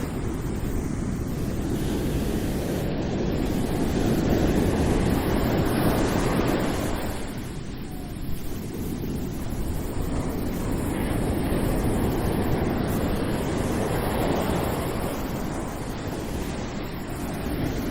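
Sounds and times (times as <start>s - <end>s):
ocean waves washing in: 0.0s - 17.9s.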